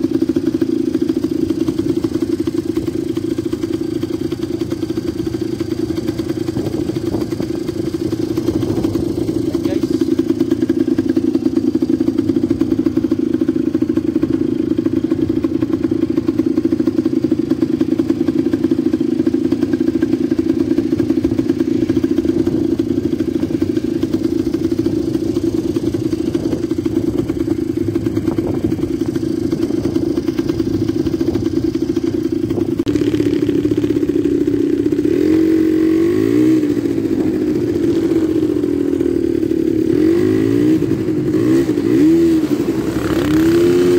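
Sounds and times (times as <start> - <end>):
quad bike engine revving: 0.0 - 43.9.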